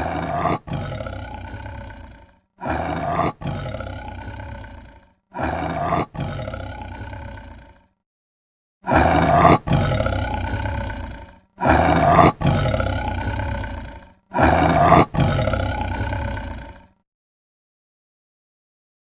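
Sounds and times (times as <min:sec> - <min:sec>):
large animal roaring: 0:00.0 - 0:08.0, 0:08.8 - 0:17.0.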